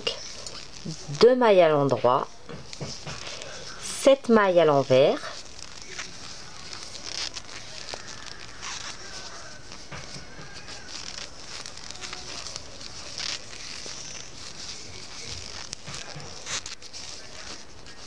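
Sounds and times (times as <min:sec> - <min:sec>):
yarn rustling: 0:00.0 - 0:18.0.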